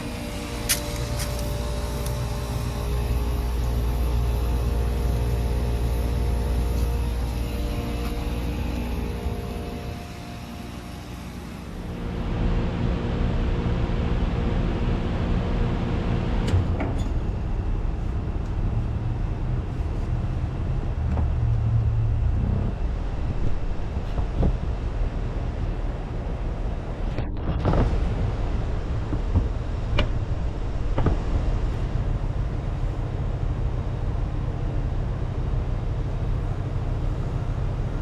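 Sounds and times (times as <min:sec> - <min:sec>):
heat pump hum: 0:00.0 - 0:38.0
steady rushing noise: 0:00.0 - 0:38.0.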